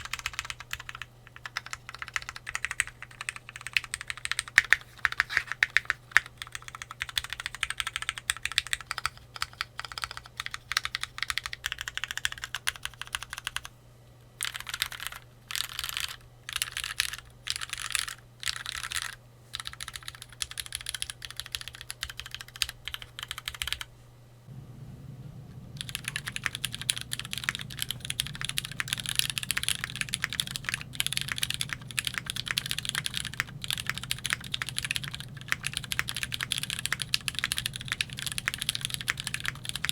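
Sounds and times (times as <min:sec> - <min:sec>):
mechanical keyboard typing: 0:00.0 - 0:13.7, 0:14.4 - 0:23.9, 0:25.8 - 0:39.9.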